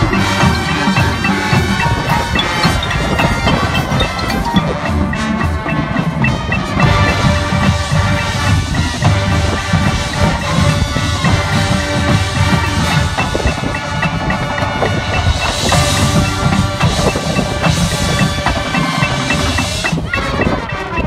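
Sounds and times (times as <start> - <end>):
drums: 0.0 - 21.0
mallet percussion notes: 0.0 - 21.0
marching band playing: 0.0 - 21.0.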